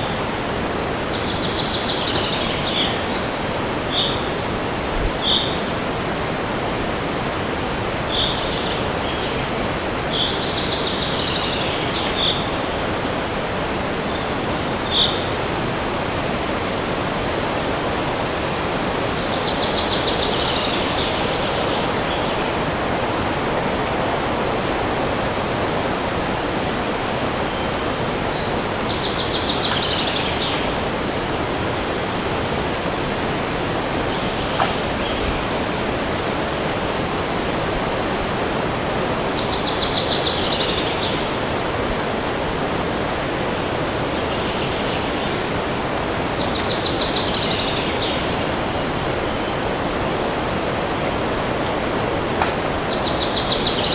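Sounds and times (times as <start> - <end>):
birds chirping: 0.0 - 53.9
wind through trees: 0.0 - 53.9.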